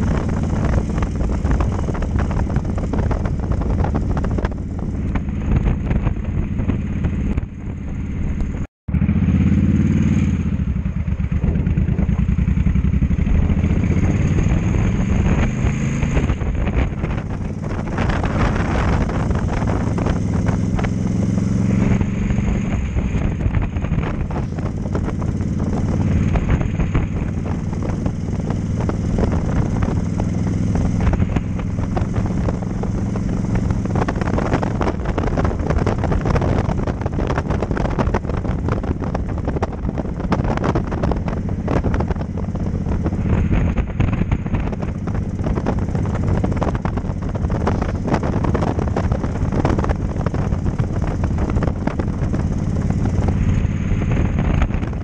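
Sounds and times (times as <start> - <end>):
motorcycle engine running: 0.0 - 55.0
wind and road rush: 0.0 - 55.0.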